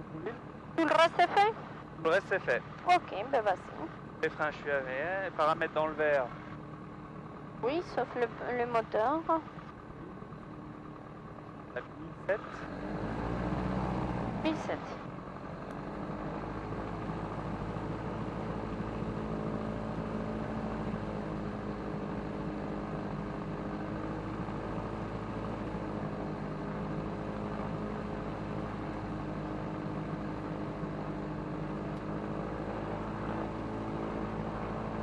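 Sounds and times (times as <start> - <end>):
aircraft engine and propeller drone: 0.0 - 35.0.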